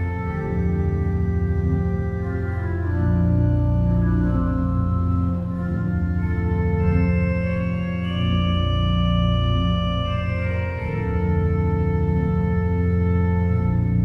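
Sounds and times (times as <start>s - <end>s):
organ playing slow chords: 0.0s - 14.0s.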